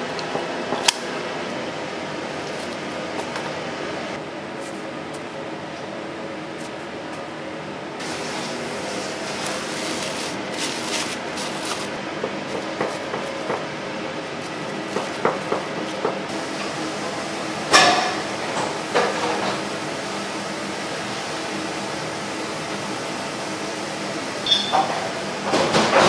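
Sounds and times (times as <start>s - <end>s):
kitchen ventilation hum: 0.0s - 26.0s.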